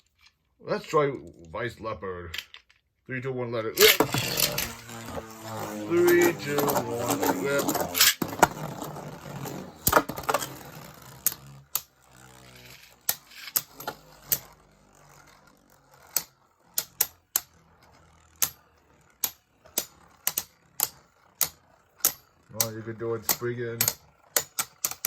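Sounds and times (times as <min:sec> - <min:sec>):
spinning tops whirring: 0:03.8 - 0:25.0.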